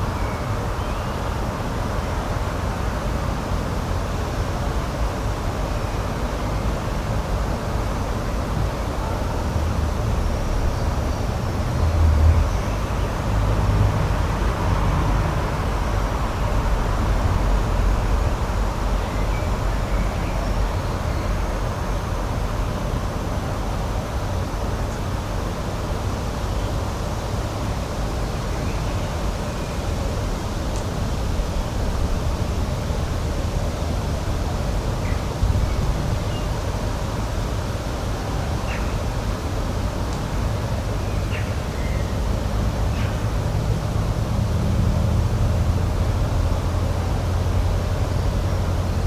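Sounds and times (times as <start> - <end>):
steady rushing outdoor noise: 0.0 - 49.0.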